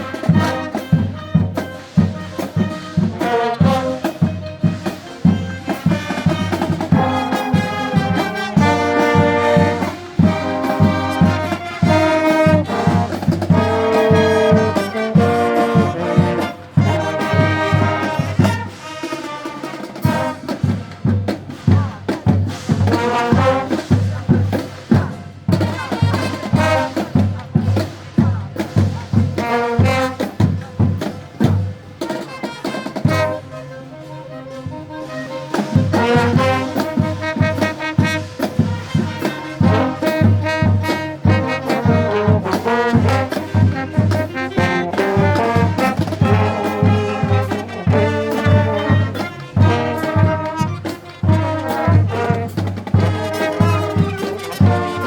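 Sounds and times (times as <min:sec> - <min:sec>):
marching drum beat: 0:00.0 - 0:33.5, 0:35.5 - 0:55.0
brass playing a tune: 0:00.0 - 0:55.0.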